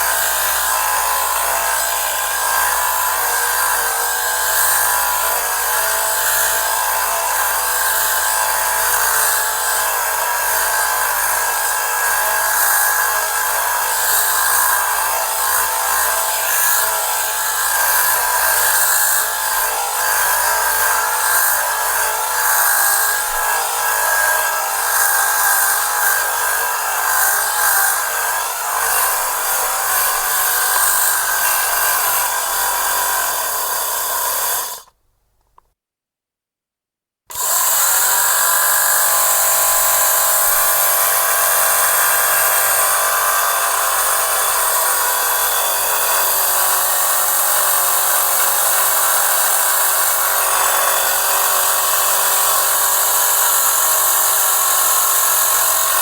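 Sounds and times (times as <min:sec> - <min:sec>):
lint remover motor buzzing: 0:00.0 - 0:35.0, 0:37.3 - 0:56.0.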